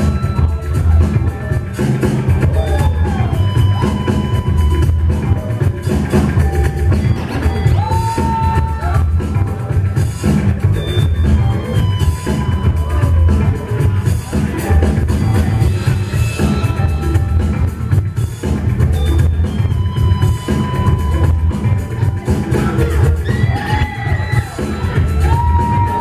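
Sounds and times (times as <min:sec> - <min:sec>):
breakbeat music with heavy drums: 0:00.0 - 0:26.0.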